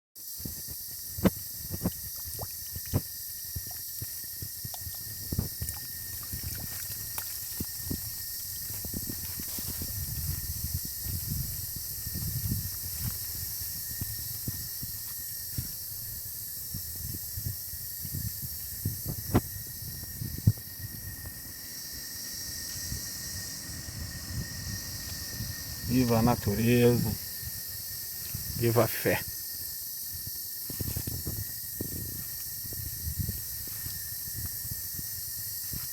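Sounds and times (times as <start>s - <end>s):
high-pitched hiss: 0.2s - 35.9s.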